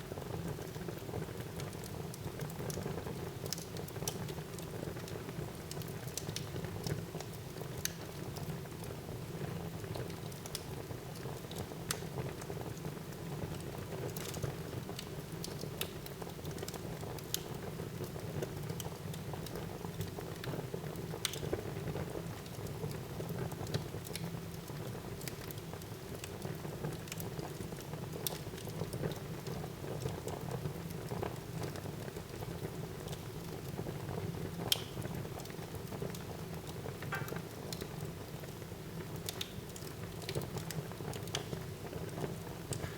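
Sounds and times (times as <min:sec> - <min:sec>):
fire crackles and pops: 0:00.1 - 0:42.9.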